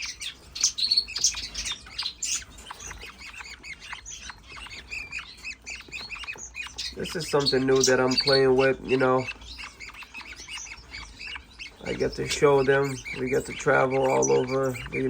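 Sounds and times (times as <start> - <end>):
budgerigars chattering: 0.0 - 15.0.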